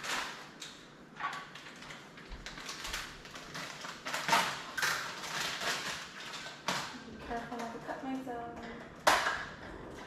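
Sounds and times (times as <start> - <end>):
food packaging crinkling and knocking: 0.0 - 10.0.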